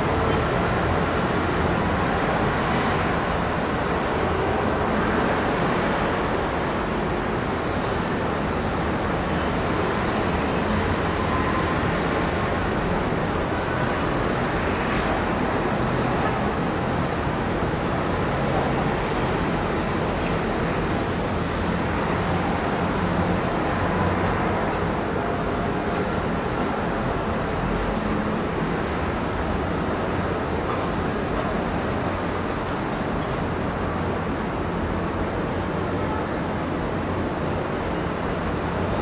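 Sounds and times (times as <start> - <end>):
distant road traffic hum: 0.0 - 39.0.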